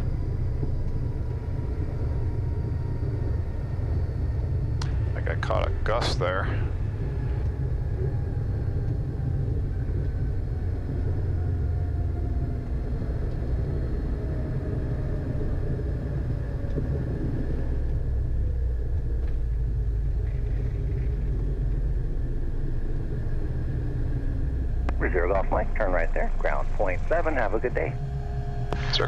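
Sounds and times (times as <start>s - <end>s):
jet landing rollout rumble: 0.0s - 29.0s.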